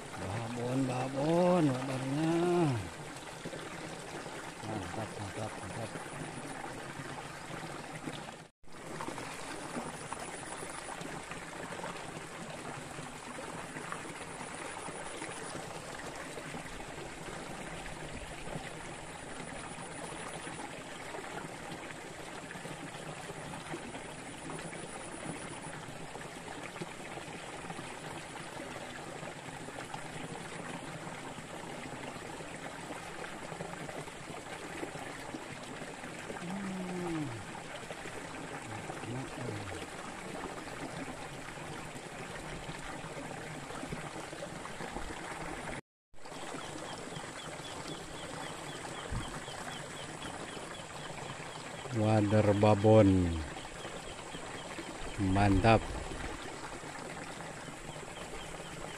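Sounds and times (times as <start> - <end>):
water trickling over stones: 0.0 - 58.9.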